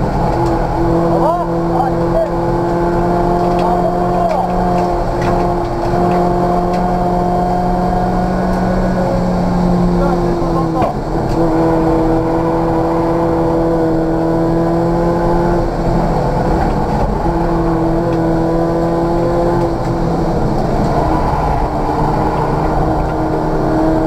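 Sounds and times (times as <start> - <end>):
car engine revving high: 0.0 - 24.0.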